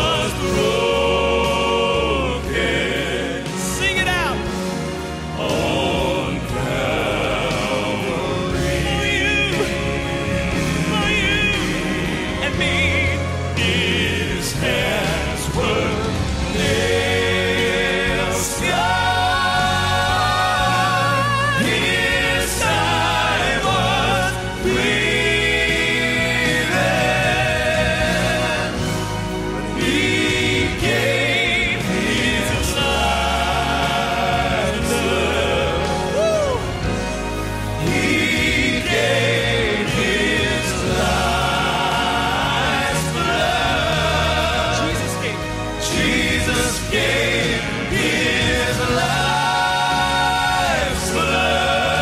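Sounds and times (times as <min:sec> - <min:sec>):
band accompaniment: 0:00.0 - 0:52.0
male vocal group singing in harmony: 0:00.0 - 0:52.0.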